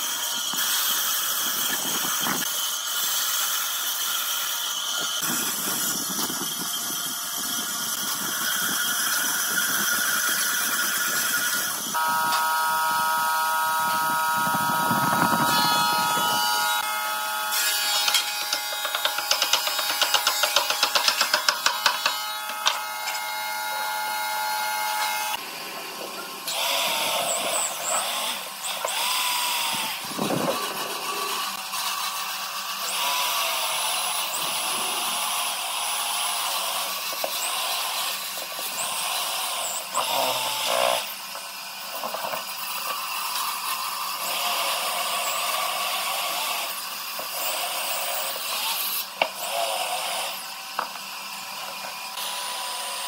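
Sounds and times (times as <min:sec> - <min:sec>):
power tool whine: 0:00.0 - 0:53.0
rough wood cutting noise: 0:00.0 - 0:53.0.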